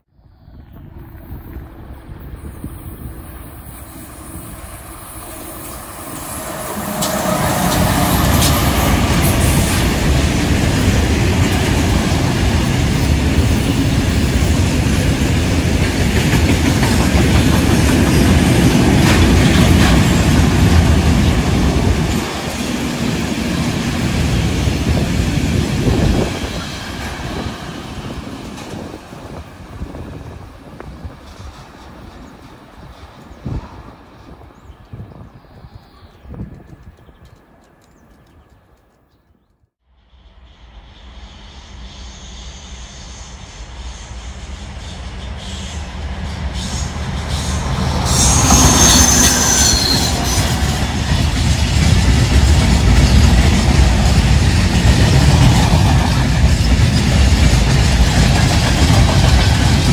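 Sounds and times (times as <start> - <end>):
diesel locomotive passing: 0.2 - 38.8, 39.8 - 59.9
train wheels rolling on rails: 0.3 - 39.1, 40.5 - 59.9.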